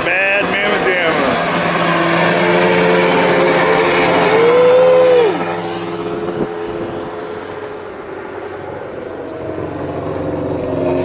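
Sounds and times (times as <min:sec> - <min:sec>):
lawn mower engines running: 0:00.0 - 0:11.0.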